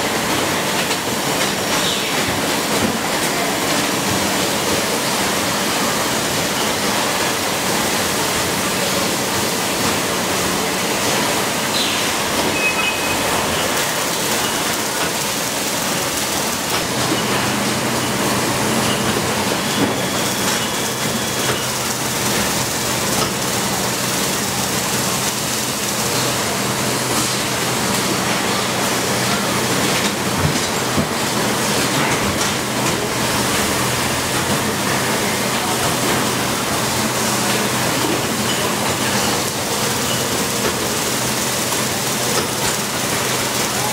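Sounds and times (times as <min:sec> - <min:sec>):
production line machinery din: 0:00.0 - 0:43.9.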